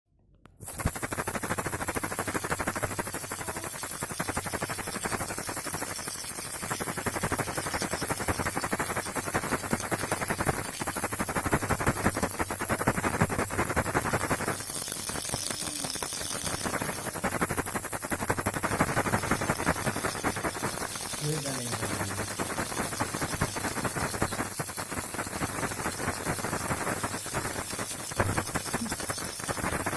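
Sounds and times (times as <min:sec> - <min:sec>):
steady hiss: 0:00.5 - 0:29.9
baby rattle shaking: 0:00.6 - 0:29.9.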